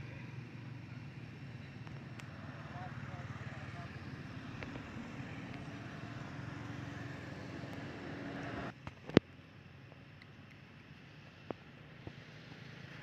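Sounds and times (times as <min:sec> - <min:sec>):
road traffic hum: 0:00.0 - 0:13.0.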